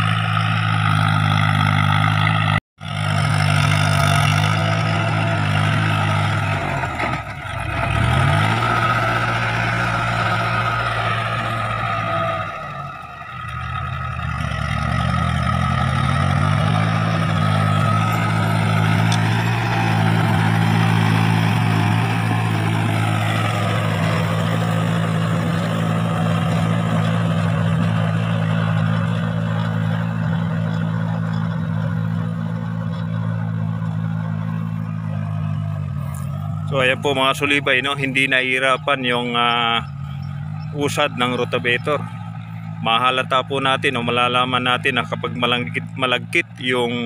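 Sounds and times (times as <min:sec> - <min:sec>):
tiller blades churning soil: 0:00.0 - 0:47.0
tractor diesel engine running: 0:00.0 - 0:47.0.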